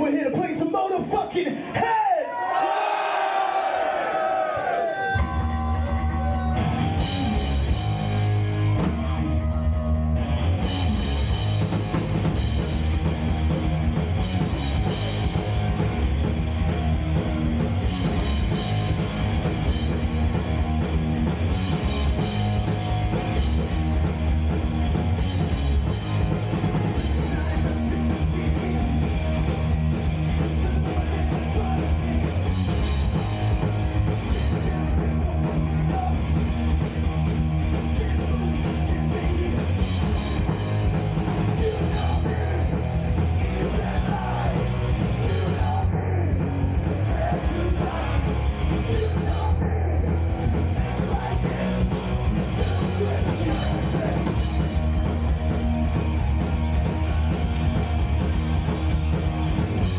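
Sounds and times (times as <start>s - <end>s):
bass guitar: 3.6s - 59.9s
distorted electric guitars: 4.7s - 59.9s
drum kit: 4.9s - 59.9s.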